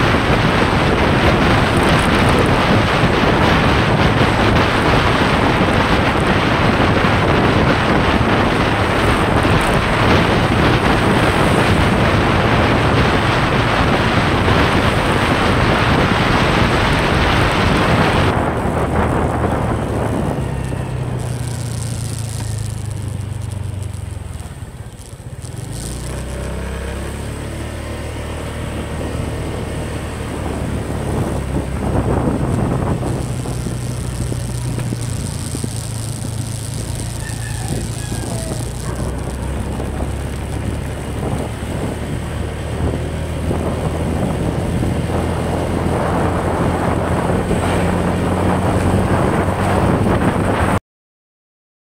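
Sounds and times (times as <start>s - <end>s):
wind rush: 0.0s - 24.7s, 25.4s - 50.8s
motorcycle engine running: 0.0s - 50.8s
road noise: 0.0s - 50.8s.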